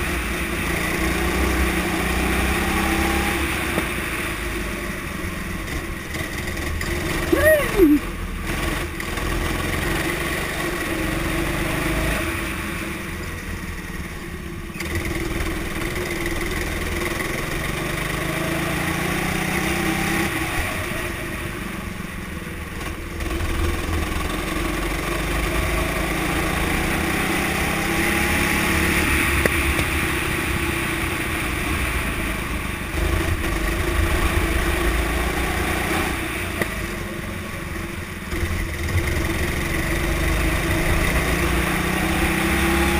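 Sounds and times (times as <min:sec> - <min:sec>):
go-kart engine accelerating: 0:00.0 - 0:42.9.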